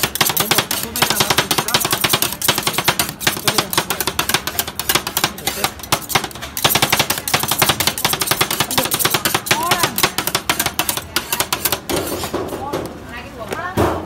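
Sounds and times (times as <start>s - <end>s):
metal spatulas chopping and scraping: 0.0s - 12.7s.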